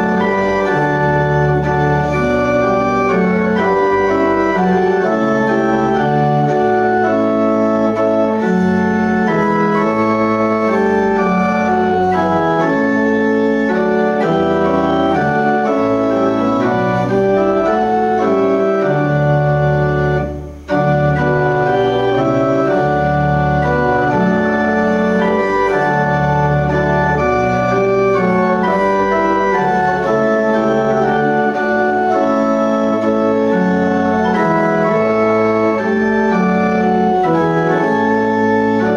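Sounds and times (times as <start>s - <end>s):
organ playing hymn chords: 0.0s - 38.9s.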